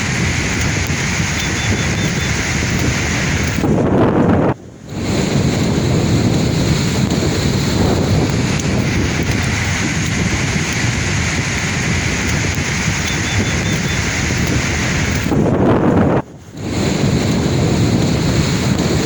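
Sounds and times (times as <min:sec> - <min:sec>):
waves washing on shore: 0:00.0 - 0:19.0
wind on microphone: 0:00.0 - 0:19.0.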